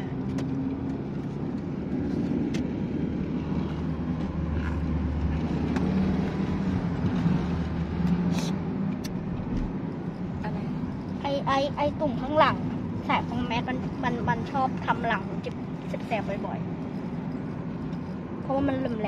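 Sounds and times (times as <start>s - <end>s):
car engine and tyre hum: 0.0s - 19.0s.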